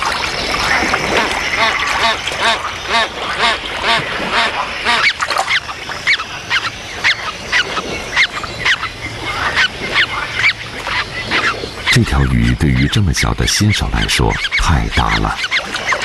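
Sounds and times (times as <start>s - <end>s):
grebes calling: 0.1s - 16.0s.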